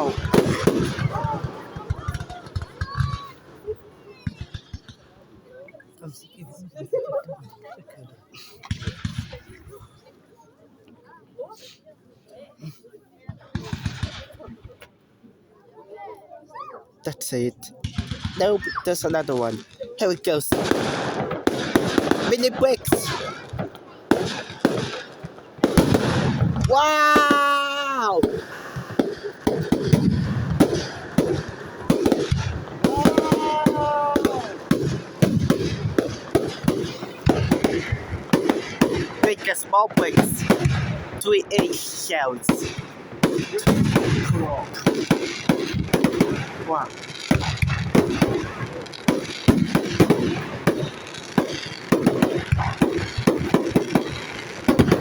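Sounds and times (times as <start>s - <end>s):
fireworks bursting: 0.0s - 5.2s, 8.6s - 9.9s, 13.4s - 14.8s, 17.1s - 55.0s.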